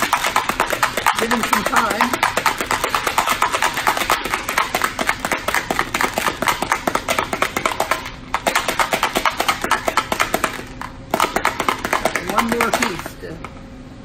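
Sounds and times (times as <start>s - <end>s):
magnetic pieces rattling in plastic tub: 0.0s - 13.1s.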